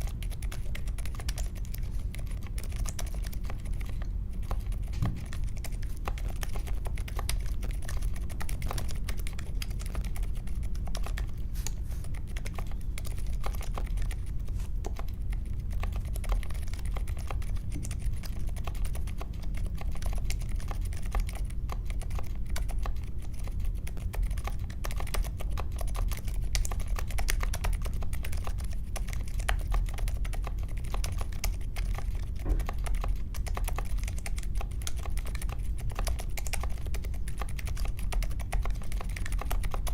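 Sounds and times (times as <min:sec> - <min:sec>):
mechanical keyboard typing: 0:00.0 - 0:11.4, 0:12.0 - 0:39.9.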